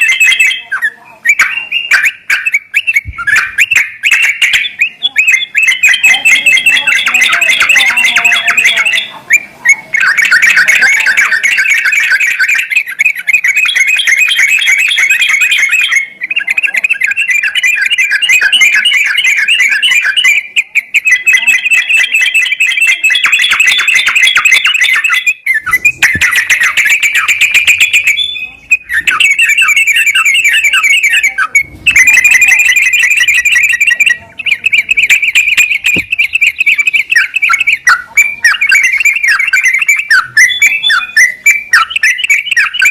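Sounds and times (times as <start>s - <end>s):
bird chattering song: 0.0s - 42.9s.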